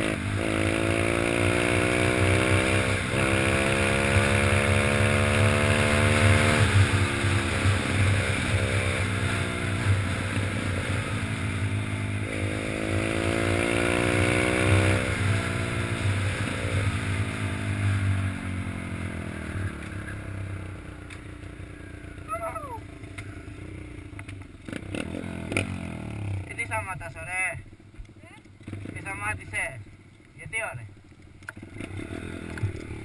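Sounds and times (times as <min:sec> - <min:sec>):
motorbike engine revving: 0:00.0 - 0:20.2, 0:22.2 - 0:26.7, 0:28.6 - 0:29.4, 0:31.5 - 0:33.0.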